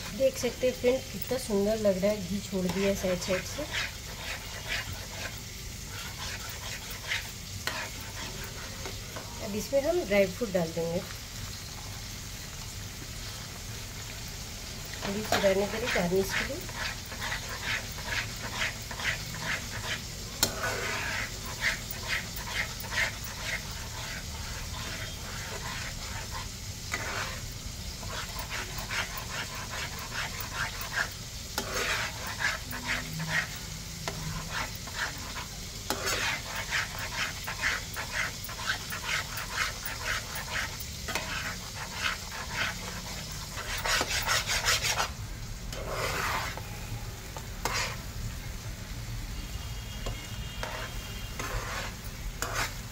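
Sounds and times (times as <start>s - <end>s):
spatula scraping pan: 0.0s - 10.4s, 14.9s - 46.8s, 47.4s - 48.1s, 50.0s - 52.9s
food sizzling: 0.0s - 52.9s.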